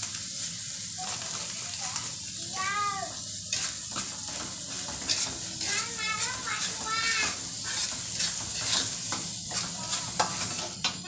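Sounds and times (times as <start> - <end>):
chili paste sizzling in hot oil: 0.0 - 11.0.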